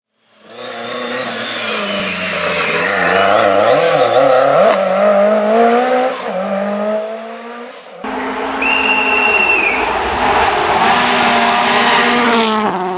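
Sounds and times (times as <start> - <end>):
rally car engine revving: 0.4 - 12.9.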